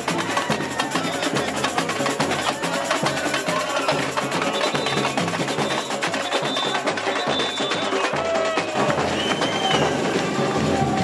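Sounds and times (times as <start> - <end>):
samba percussion music: 0.0 - 11.0.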